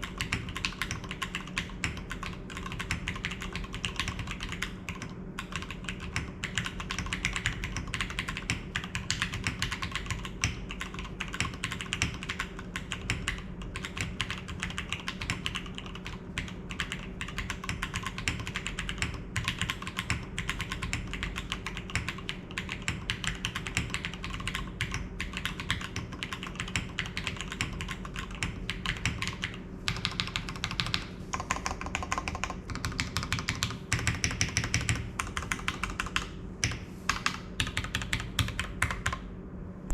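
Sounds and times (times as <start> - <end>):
fast typing on mechanical keyboard: 0.0 - 39.2.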